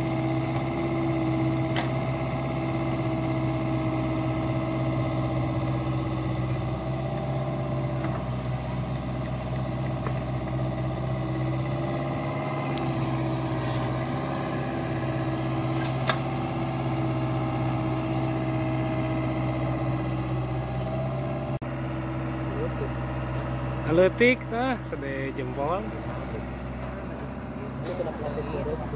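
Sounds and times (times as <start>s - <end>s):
diesel engine running under load: 0.0s - 28.9s.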